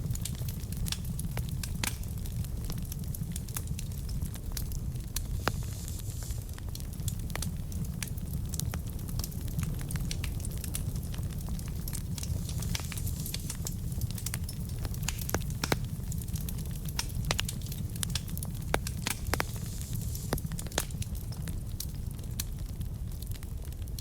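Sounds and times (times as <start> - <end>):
fire rumbling in fireplace: 0.0 - 24.0
logs crackling and popping: 0.0 - 24.0.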